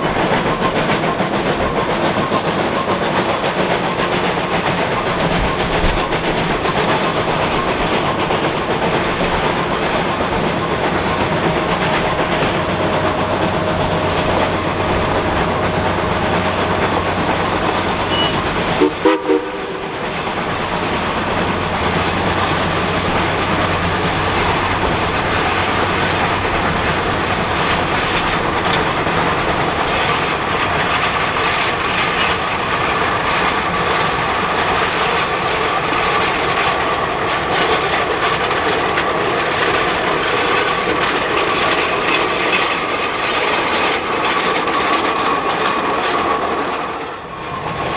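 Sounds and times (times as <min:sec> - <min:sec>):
steam locomotive clattering: 0:00.0 - 0:47.9.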